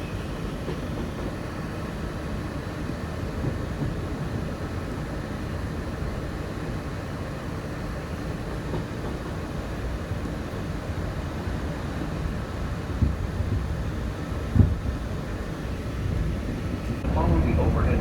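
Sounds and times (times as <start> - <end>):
monorail low rumble: 0.0 - 18.0.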